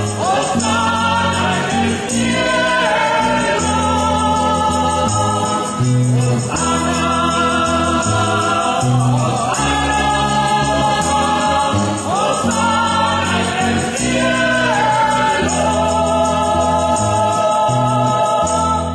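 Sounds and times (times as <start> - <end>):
acoustic bass low notes: 0.0 - 18.9
choir singing a hymn: 0.0 - 18.9
strummed acoustic guitar: 0.0 - 18.9.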